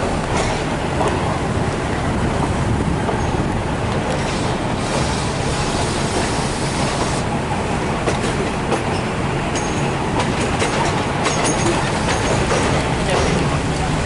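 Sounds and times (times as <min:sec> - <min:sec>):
train wheels clicking over rail joints: 0:00.0 - 0:14.0.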